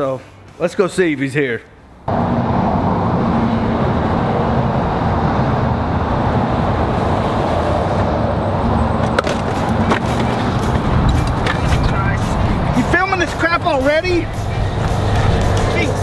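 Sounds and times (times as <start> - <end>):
wind: 0.0 - 16.0
traffic rumble: 1.7 - 16.0.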